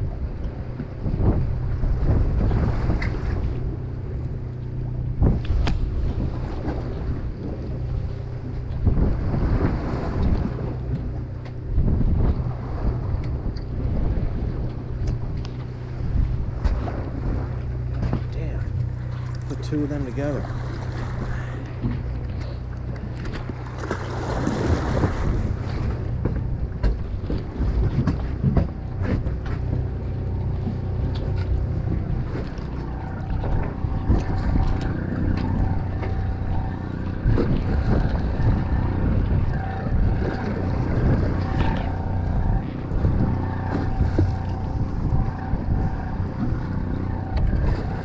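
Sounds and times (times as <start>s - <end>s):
boat engine humming: 0.0s - 48.0s
wind buffeting microphone: 0.0s - 48.0s.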